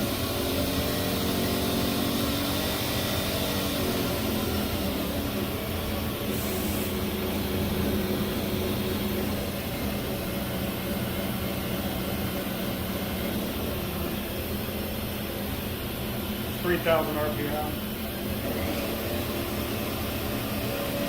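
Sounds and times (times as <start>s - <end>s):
machine hum with steady tones: 0.0s - 21.0s.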